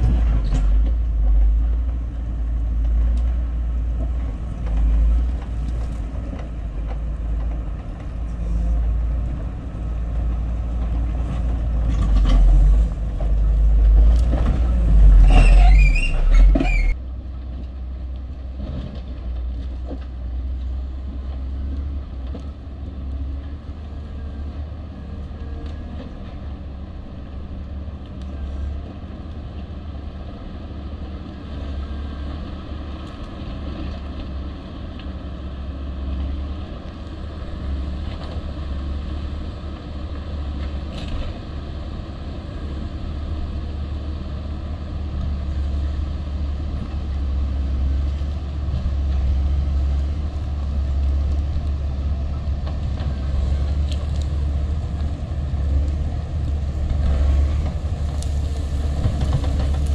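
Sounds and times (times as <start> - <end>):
grader diesel engine drone: 0.0 - 59.9.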